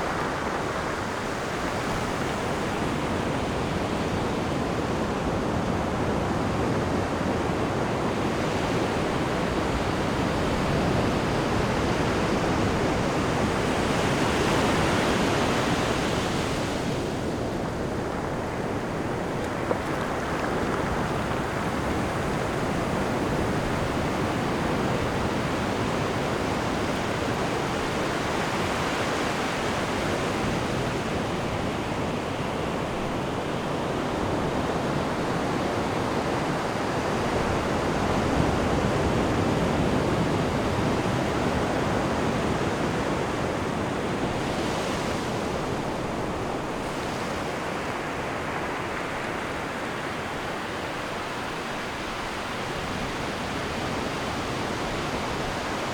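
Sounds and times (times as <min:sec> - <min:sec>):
ocean waves breaking: 0:00.0 - 0:55.9.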